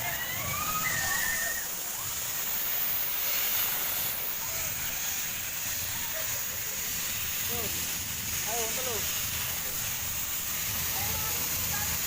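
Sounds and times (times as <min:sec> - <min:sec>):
steady hissing ambience: 0:00.0 - 0:12.0.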